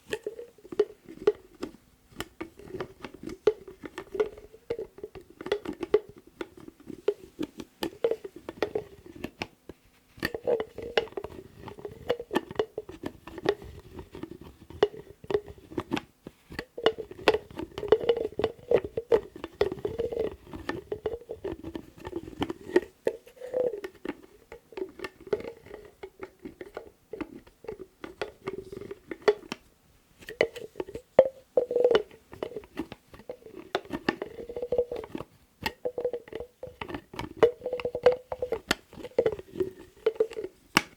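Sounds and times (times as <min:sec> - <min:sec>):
lid taps and clicks: 0:00.1 - 0:09.5, 0:16.6 - 0:29.6, 0:30.2 - 0:40.9.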